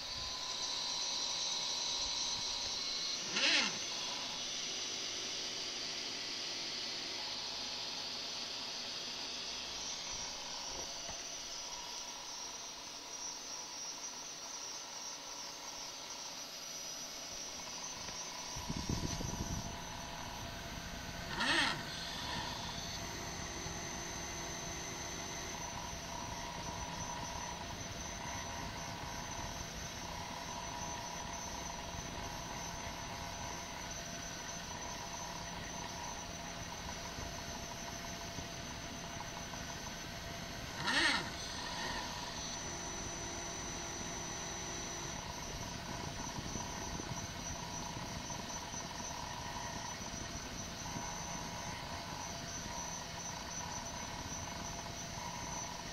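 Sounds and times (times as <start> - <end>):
stepper motors whining: 0.0 - 55.9.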